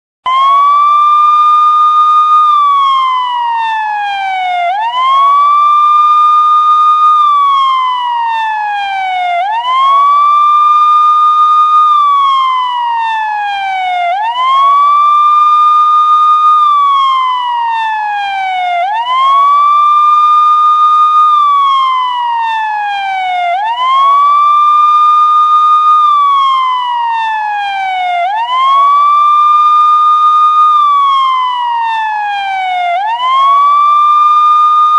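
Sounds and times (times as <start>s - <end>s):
police siren wailing: 0.3s - 34.9s.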